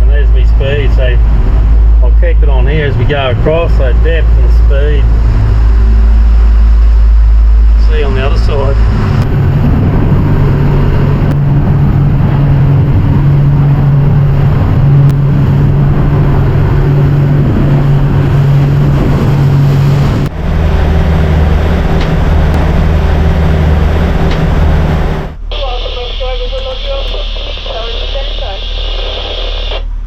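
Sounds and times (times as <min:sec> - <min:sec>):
motorboat engine running: 0:00.0 - 0:27.9
water noise: 0:00.0 - 0:30.0
wind: 0:00.0 - 0:30.0.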